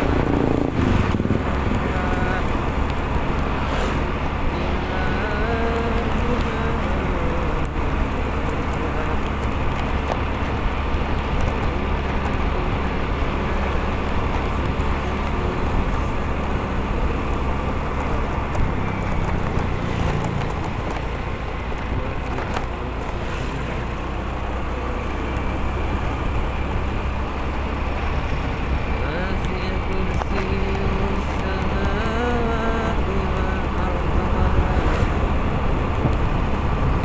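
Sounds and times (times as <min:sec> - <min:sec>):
wind noise: 0:00.0 - 0:23.8, 0:25.5 - 0:37.0
motorcycle engine running: 0:00.0 - 0:37.0
road noise: 0:00.0 - 0:37.0.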